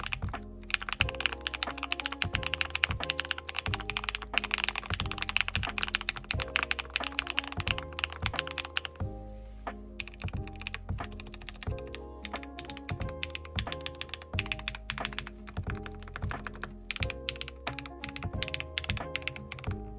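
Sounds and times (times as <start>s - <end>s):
mechanical keyboard typing: 0.0s - 9.0s, 10.0s - 19.7s
background music with held notes: 0.0s - 19.9s.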